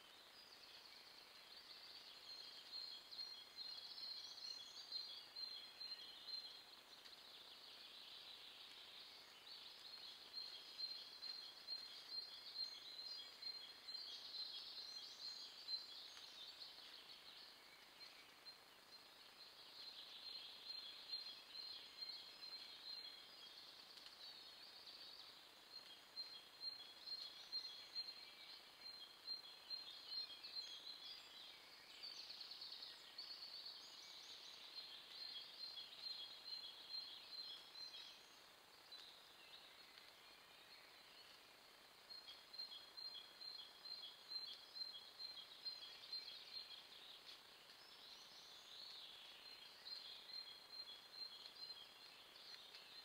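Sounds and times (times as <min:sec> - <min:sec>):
microphone hiss: 0:00.0 - 0:53.0
songbirds singing: 0:00.0 - 0:53.0.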